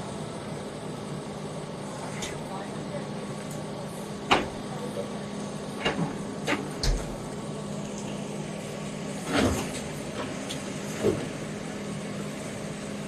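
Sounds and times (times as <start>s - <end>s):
demolition machine engine running: 0.0s - 13.0s.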